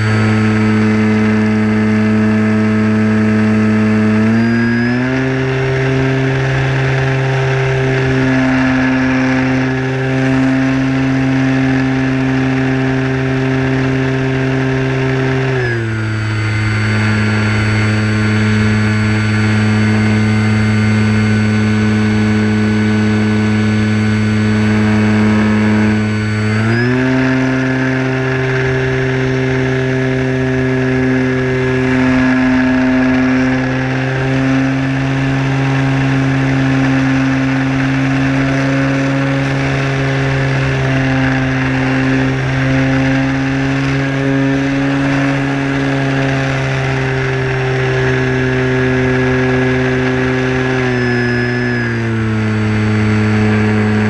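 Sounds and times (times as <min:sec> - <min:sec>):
model plane electric motor whine: 0:00.0 - 0:54.0.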